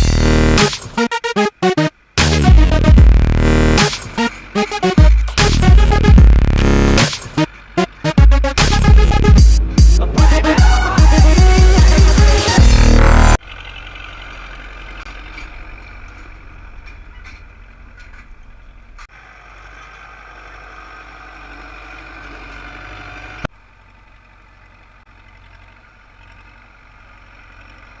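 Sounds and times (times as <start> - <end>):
tractor diesel engine rumbling: 0.0 - 28.0.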